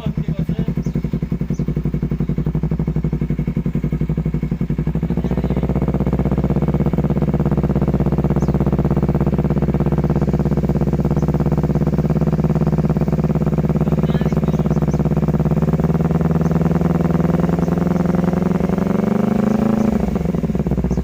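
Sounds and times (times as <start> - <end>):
motorcycle engine pulsing exhaust: 0.0 - 21.0.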